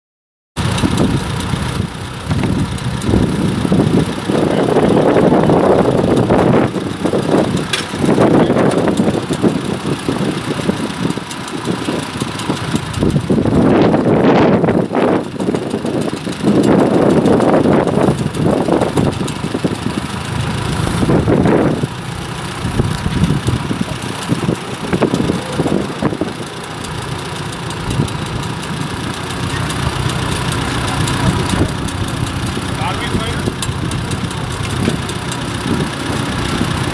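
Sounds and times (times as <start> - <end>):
hay baler engine running: 0.6 - 36.9.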